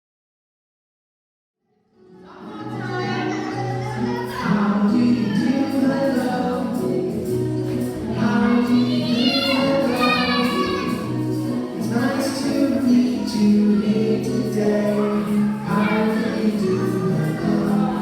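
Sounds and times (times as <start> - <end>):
voices singing children's song: 2.1 - 18.0.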